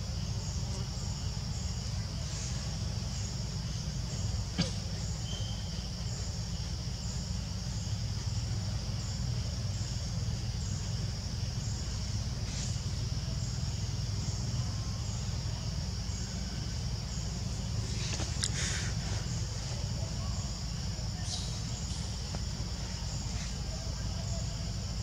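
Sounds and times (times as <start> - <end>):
insects shrilling: 0.0 - 25.0.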